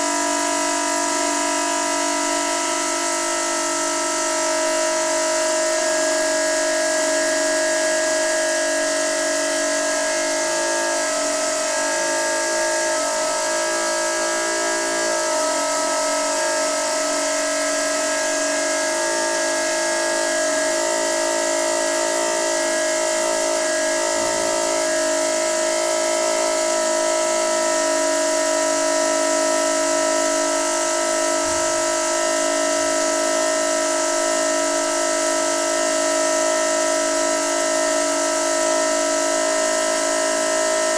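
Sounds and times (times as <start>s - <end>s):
water pipe whistling hum: 0.0s - 40.9s.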